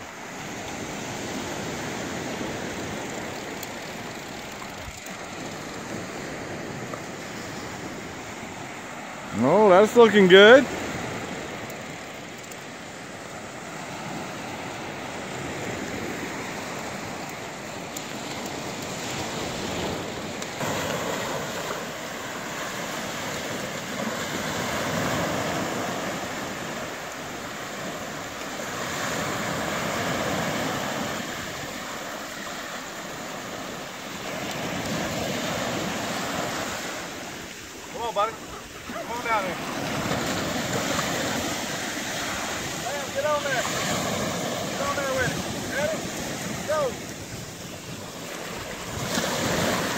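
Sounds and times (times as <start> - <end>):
small waves breaking on a beach: 0.0 - 49.9.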